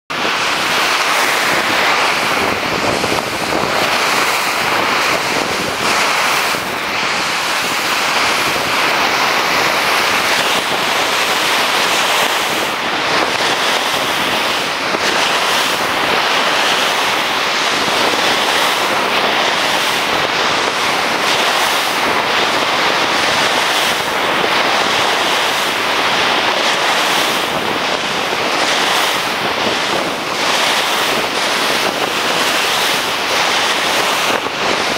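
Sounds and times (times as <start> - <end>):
ocean surf breaking on beach: 0.1 - 34.9.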